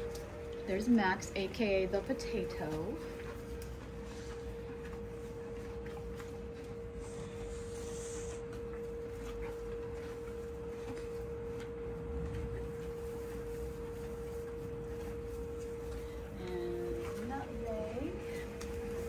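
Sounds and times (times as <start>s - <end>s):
pony chewing hay: 0.0s - 19.0s
steady mid-pitched hum: 0.0s - 19.0s.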